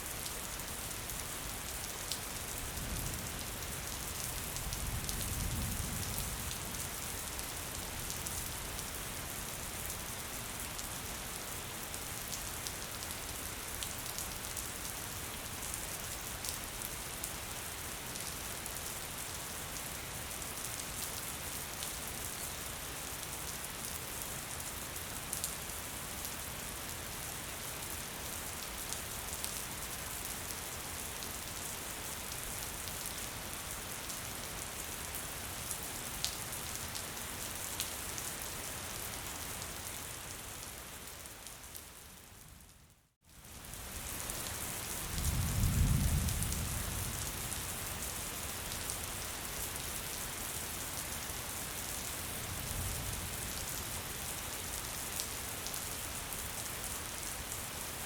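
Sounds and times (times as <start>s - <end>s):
light rain hiss: 0.0s - 58.0s.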